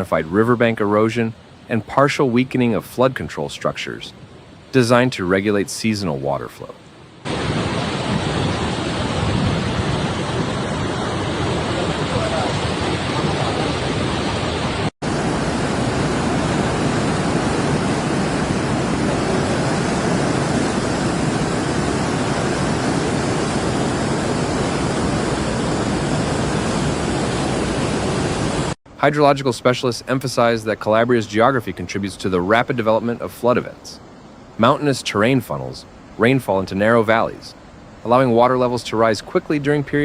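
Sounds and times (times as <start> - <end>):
rushing floodwater: 0.0 - 40.0.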